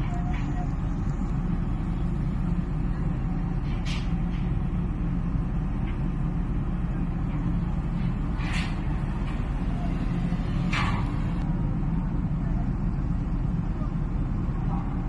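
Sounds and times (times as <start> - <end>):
vehicle engines rumbling: 0.0 - 15.0.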